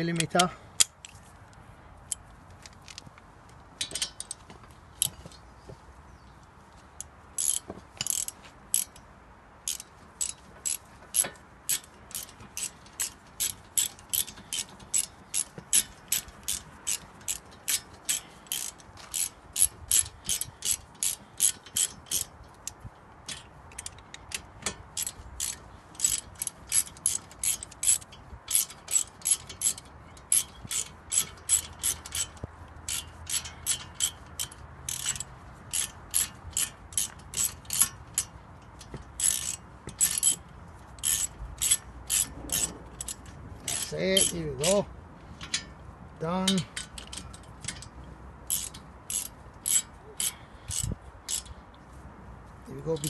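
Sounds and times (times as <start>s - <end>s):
hand ratchet clicking: 0.1s - 1.2s, 7.0s - 9.0s, 9.7s - 45.8s, 46.4s - 51.6s.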